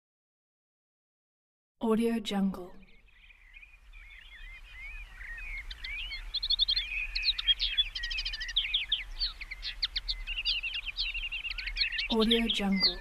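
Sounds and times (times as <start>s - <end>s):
songbirds singing: 2.4s - 13.0s.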